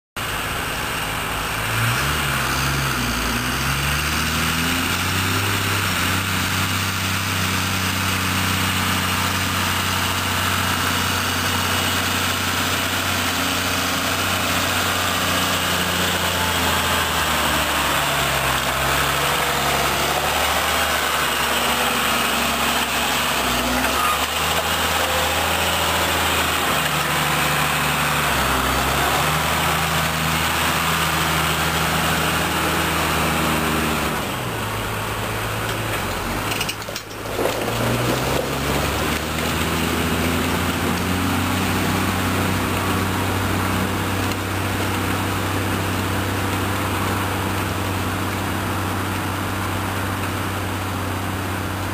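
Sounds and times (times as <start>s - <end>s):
tractor diesel engine under load: 0.2s - 51.9s.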